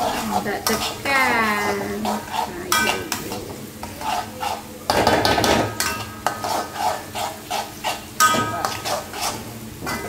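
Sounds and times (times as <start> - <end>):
frying sizzle: 0.0 - 10.0
metal spatula scraping wok: 0.0 - 10.0.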